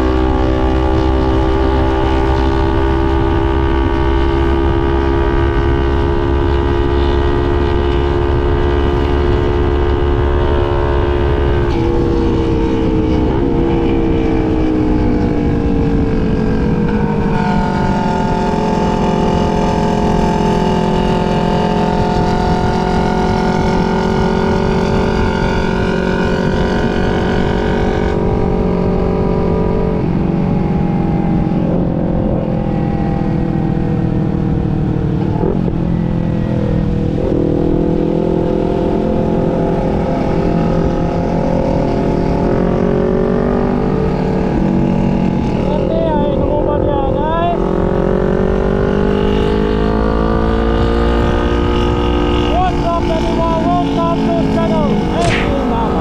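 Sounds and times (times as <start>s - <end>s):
motorcycle engine running: 0.0s - 46.6s
wind and road noise: 0.0s - 56.0s.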